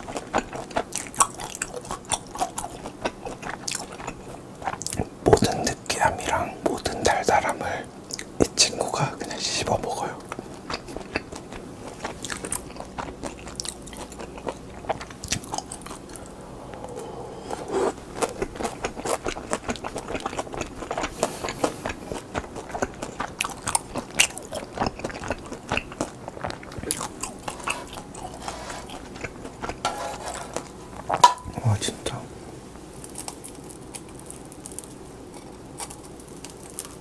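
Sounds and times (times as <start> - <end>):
crunchy biting and chewing: 0.0 - 6.4, 10.2 - 31.6, 32.9 - 37.0.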